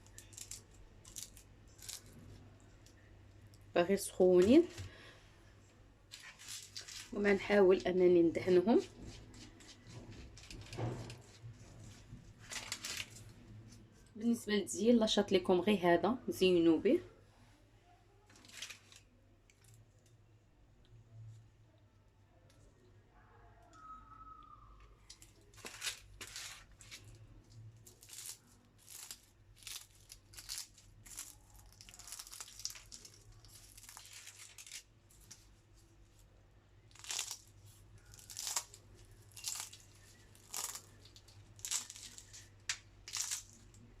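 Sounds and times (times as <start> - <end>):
crackling crinkling sounds: 0.0 - 14.2, 18.2 - 20.2, 23.6 - 44.0.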